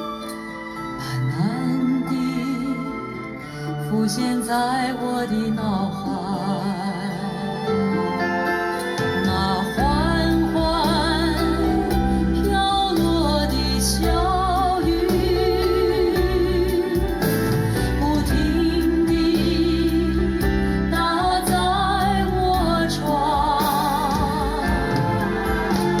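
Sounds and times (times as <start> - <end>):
pop ballad over speakers: 0.0 - 26.0.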